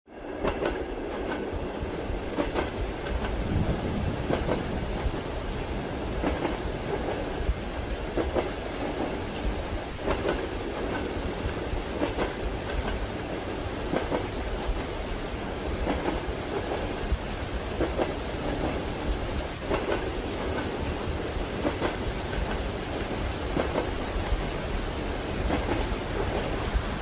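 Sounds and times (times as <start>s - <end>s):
rain hiss: 0.1s - 27.0s
train carriage rumble: 0.1s - 27.0s
train wheels knocking on rail joints: 0.4s - 27.0s.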